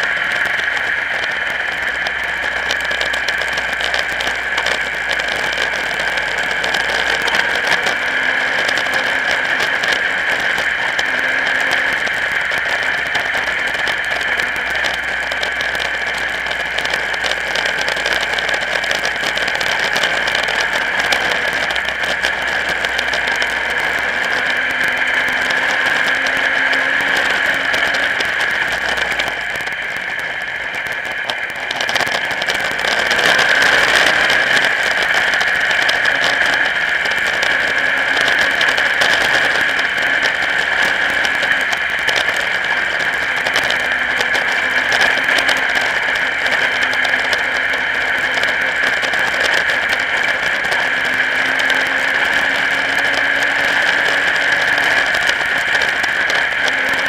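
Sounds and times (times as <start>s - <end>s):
race car engine accelerating: 0.0s - 57.0s
rattle: 0.0s - 57.0s
wind rush: 0.0s - 57.0s.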